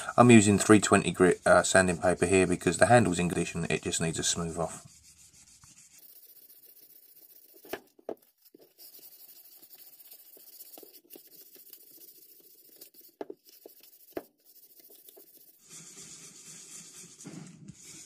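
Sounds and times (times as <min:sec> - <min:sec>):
sandpaper sanding wood: 0:00.0 - 0:18.0.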